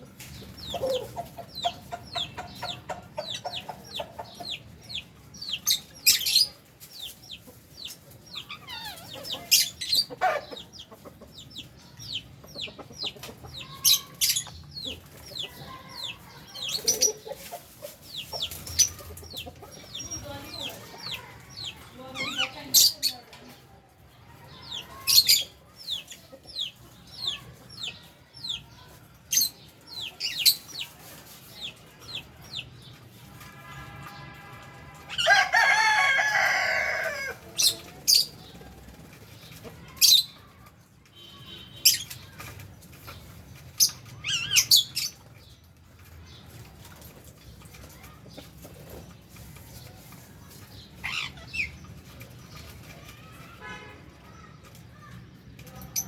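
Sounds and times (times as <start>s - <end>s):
small birds chirping and shrieking: 0.0s - 56.0s.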